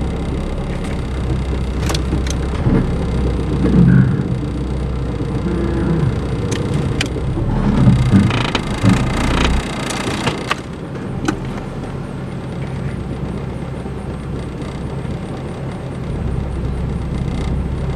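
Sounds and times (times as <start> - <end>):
car engine idling: 0.0 - 17.9
sharp clicks: 0.1 - 17.9.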